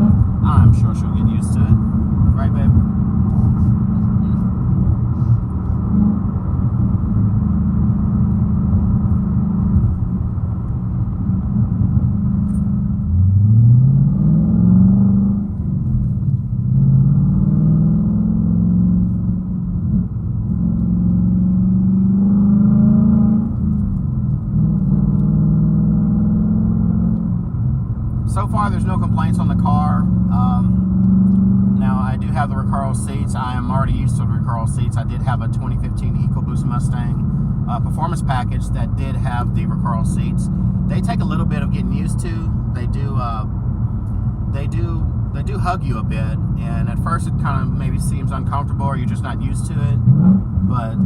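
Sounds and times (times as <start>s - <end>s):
car engine droning and revving: 0.0s - 51.0s.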